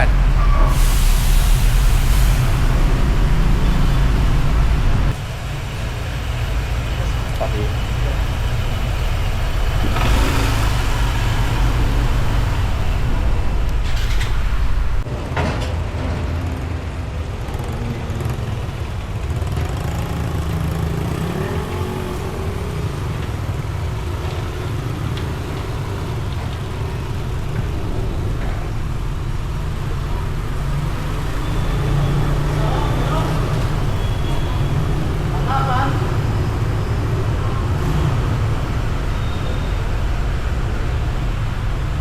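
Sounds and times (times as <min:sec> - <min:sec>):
road traffic noise: 0:00.0 - 0:42.0
vehicle engine rumble: 0:00.0 - 0:42.0.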